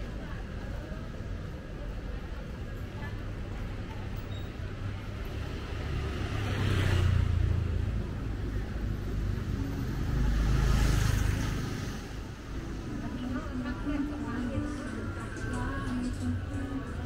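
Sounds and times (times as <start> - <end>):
steady traffic rumble: 0.0 - 17.0
vehicles passing close by: 0.0 - 17.0.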